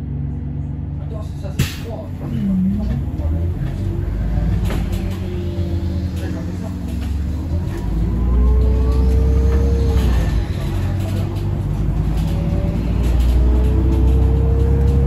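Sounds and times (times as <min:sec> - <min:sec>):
bus drivetrain rumble: 0:00.0 - 0:15.0.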